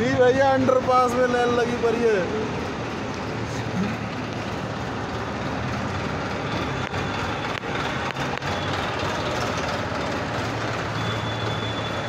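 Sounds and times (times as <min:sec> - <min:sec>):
diesel tractor engines running: 0:00.0 - 0:12.0.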